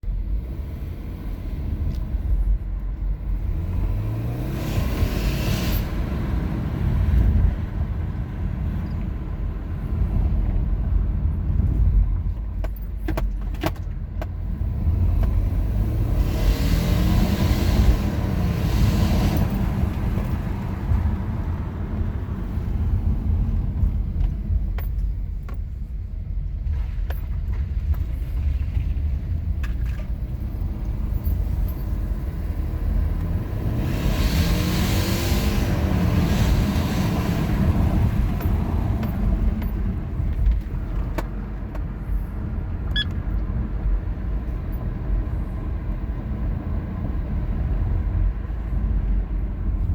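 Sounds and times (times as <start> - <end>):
car engine accelerating: 0.0 - 12.4, 14.4 - 25.1, 28.1 - 49.9.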